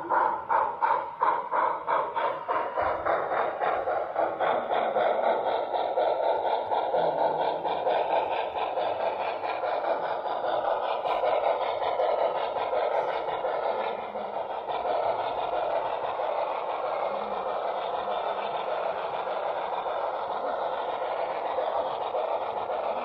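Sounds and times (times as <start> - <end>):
model train mechanical hum: 0.0 - 23.0.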